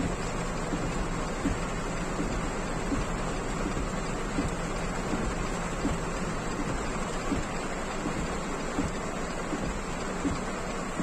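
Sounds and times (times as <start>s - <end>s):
heavy rain on car roof: 0.0s - 11.0s.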